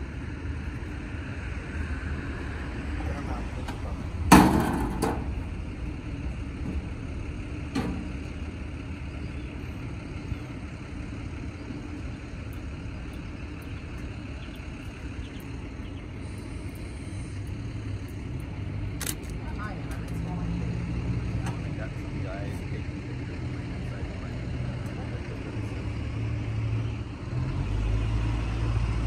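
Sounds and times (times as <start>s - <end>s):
motor vehicles humming: 0.0s - 29.0s.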